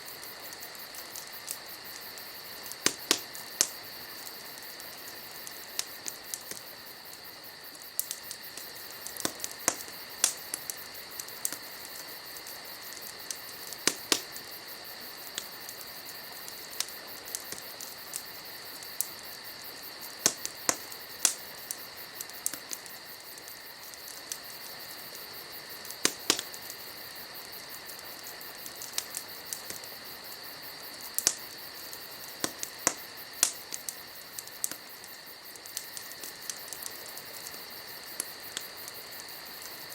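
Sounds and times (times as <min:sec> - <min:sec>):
insects chirring: 0:00.0 - 0:39.9
wood fire crackling and popping: 0:00.0 - 0:39.9.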